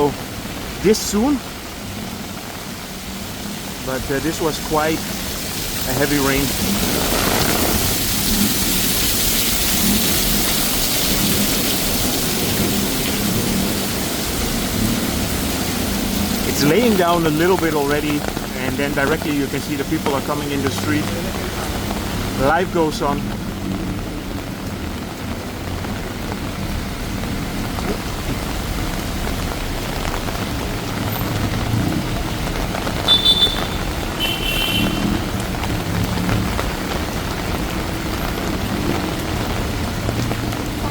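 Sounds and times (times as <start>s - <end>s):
heavy rain on street: 0.0s - 40.9s
traffic on wet road: 0.0s - 40.9s.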